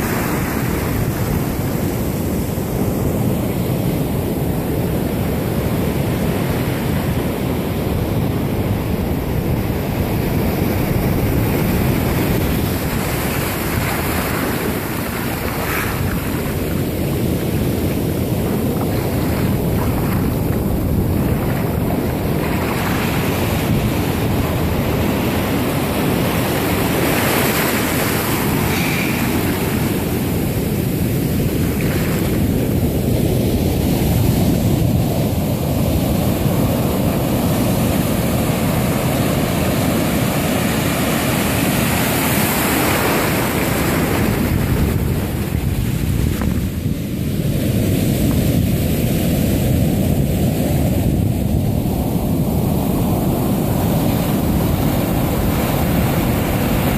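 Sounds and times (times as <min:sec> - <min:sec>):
ocean surf breaking: 0:00.0 - 0:56.9.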